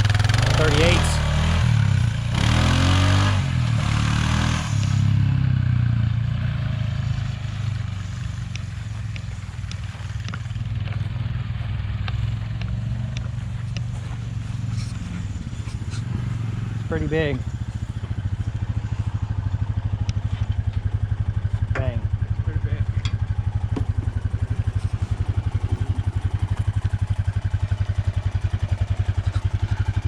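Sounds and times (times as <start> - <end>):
engine idling: 0.0 - 2.6, 4.7 - 30.0.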